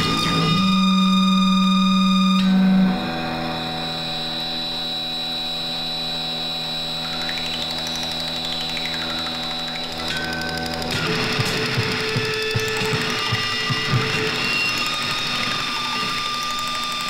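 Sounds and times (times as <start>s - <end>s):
high whistling tone: 0.0s - 17.0s
machine-like drone of held tones: 0.0s - 17.0s.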